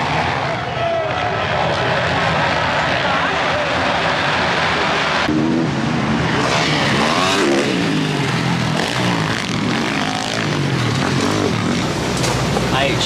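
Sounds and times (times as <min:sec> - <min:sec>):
motocross engines revving: 0:01.2 - 0:13.0.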